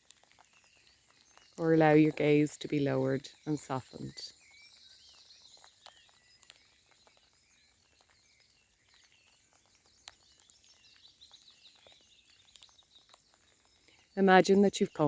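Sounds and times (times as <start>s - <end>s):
sharp drip tick: 0.0s - 15.0s
soft rain pattering: 0.0s - 15.0s
distant birds chirping: 0.5s - 15.0s.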